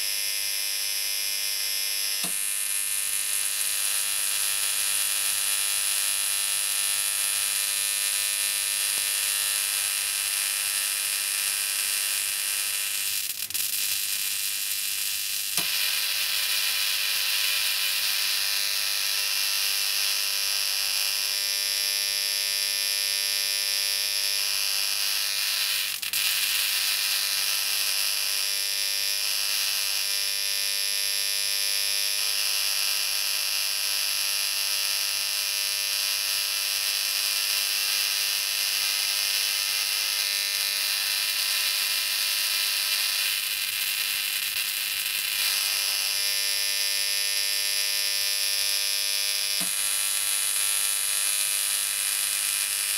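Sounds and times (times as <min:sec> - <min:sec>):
electric arc sizzling hiss: 0:00.0 - 0:52.9
low electric buzz: 0:00.0 - 0:52.9
sharp electric snaps: 0:00.0 - 0:52.9.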